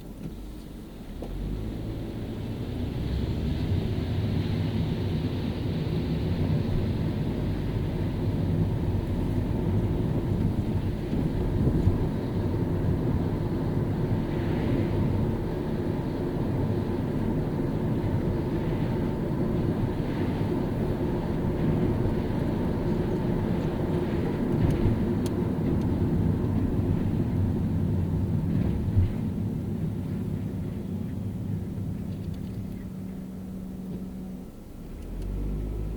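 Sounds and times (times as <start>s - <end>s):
road rumble: 0.0s - 35.9s.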